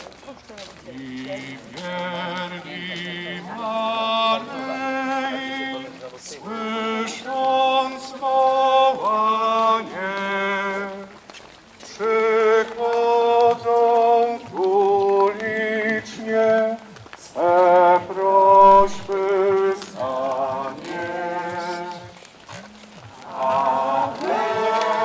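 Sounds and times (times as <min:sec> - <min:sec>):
voices singing a slow hymn: 0:00.8 - 0:11.2, 0:11.8 - 0:25.0.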